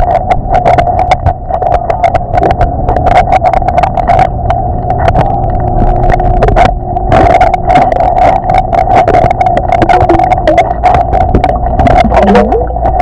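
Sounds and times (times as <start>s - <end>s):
underwater drone and rumble: 0.0s - 13.0s.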